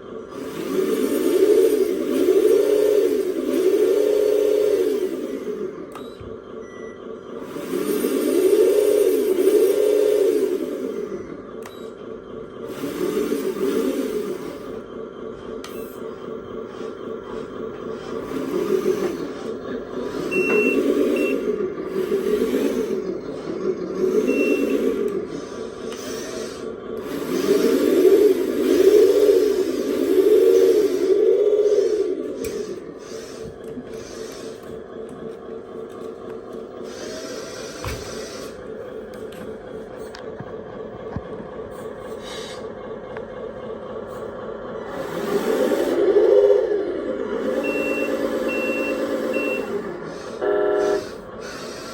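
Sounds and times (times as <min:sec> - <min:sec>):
toy truck motors whirring: 0:00.0 - 0:06.4, 0:07.3 - 0:40.3, 0:44.2 - 0:51.9.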